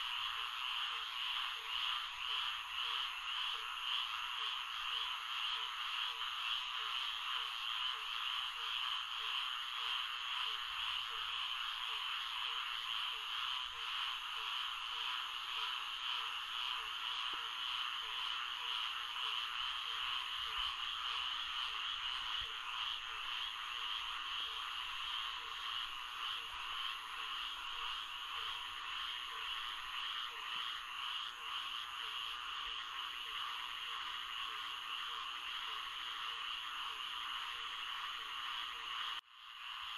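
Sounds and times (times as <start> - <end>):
frog chorus: 0.0 - 39.9
low repeating frog call: 0.0 - 39.9.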